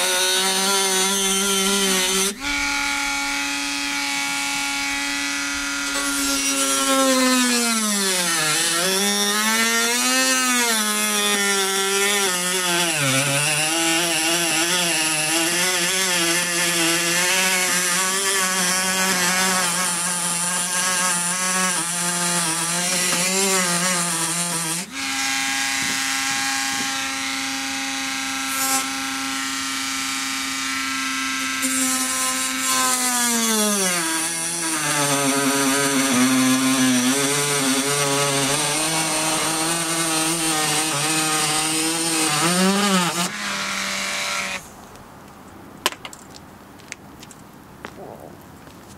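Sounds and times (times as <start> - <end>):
rotary tool cutting plastic: 0.0 - 44.7.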